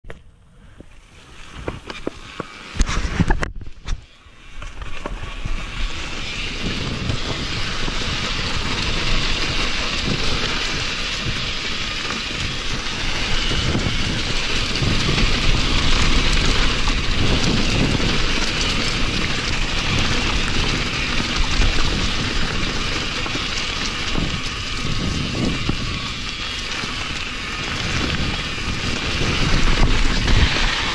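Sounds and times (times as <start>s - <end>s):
bike knocking and rattling: 0.0s - 30.9s
tyres on dirt: 0.0s - 30.9s
wind on microphone: 1.4s - 30.9s.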